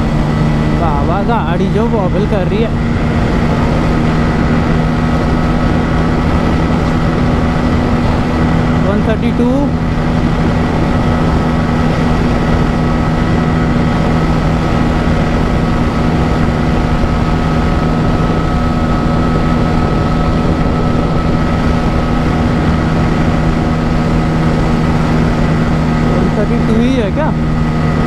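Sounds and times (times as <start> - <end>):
motorcycle engine at full throttle: 0.0 - 28.0
wind rush over microphone: 0.0 - 28.0.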